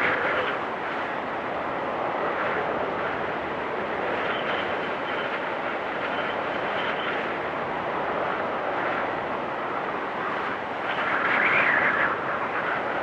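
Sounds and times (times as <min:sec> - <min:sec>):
storm wind whistling: 0:00.0 - 0:13.0.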